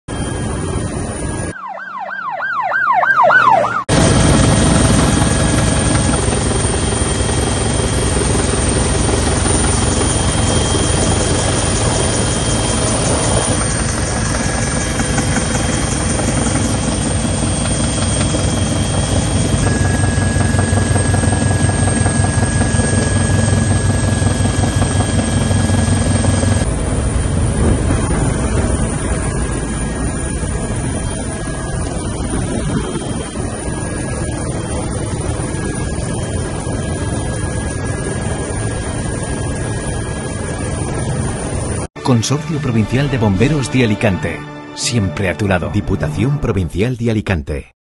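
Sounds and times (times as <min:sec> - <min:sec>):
helicopter rotor beat: 0:00.1 - 0:01.6, 0:03.1 - 0:42.0
turbine whine: 0:00.1 - 0:01.7, 0:02.4 - 0:41.9.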